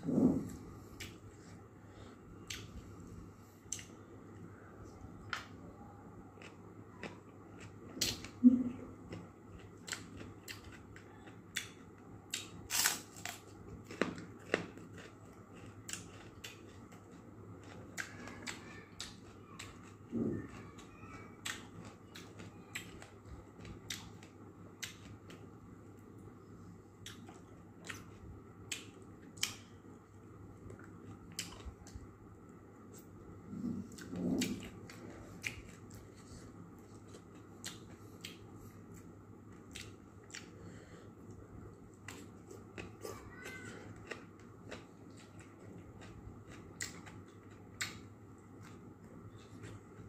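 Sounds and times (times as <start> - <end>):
chewing with mouth clicks: 6.3 - 25.6, 26.9 - 32.1, 32.9 - 50.0.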